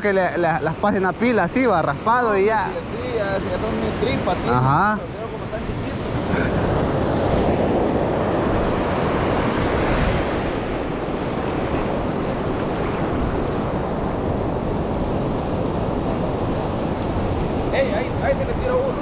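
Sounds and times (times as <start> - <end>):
ocean surf breaking: 0.0 - 19.0
wind on microphone: 0.7 - 19.0.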